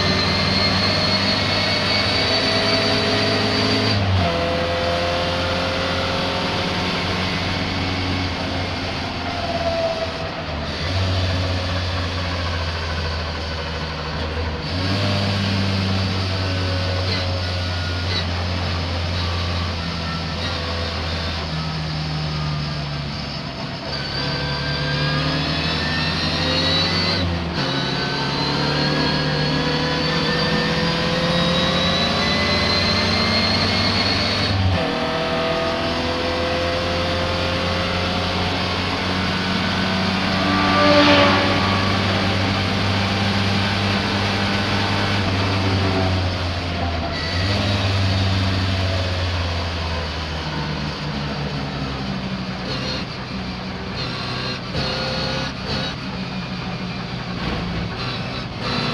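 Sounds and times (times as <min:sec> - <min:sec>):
racing car engine revving: 0:00.0 - 0:58.9.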